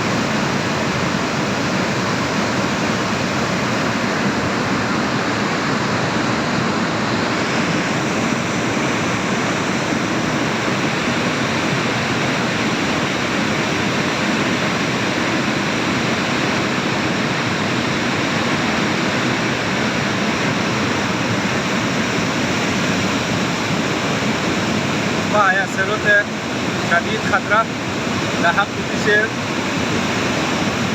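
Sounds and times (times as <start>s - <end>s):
stream water rushing: 0.0s - 30.9s.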